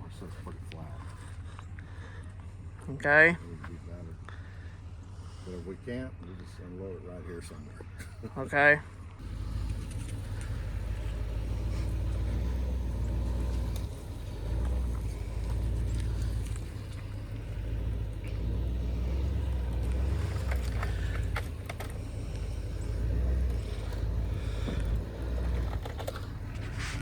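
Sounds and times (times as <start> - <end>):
truck engine low rumble: 0.0 - 27.0.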